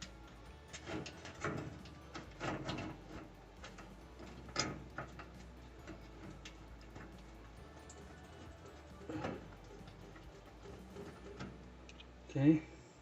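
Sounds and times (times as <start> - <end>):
bolts clicking and clattering: 0.0 - 12.1.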